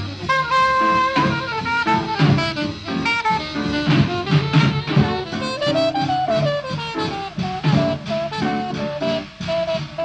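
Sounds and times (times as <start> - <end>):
jazz music with steady beat: 0.0 - 10.0.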